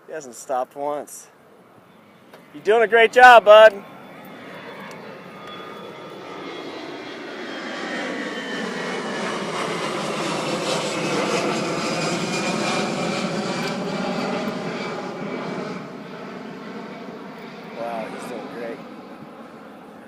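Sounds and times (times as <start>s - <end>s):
low-flying aircraft passing overhead: 0.0s - 20.0s.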